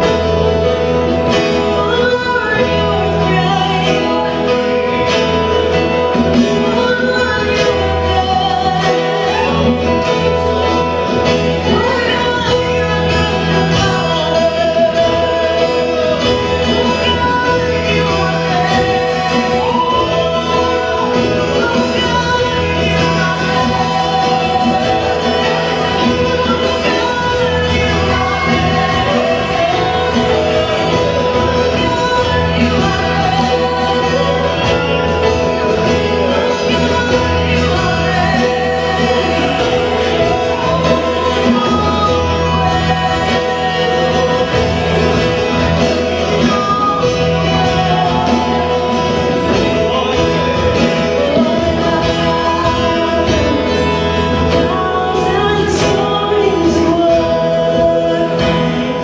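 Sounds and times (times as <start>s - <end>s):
hand drum: 0.0s - 59.0s
people singing: 0.0s - 59.0s
strummed acoustic guitars: 0.0s - 59.0s.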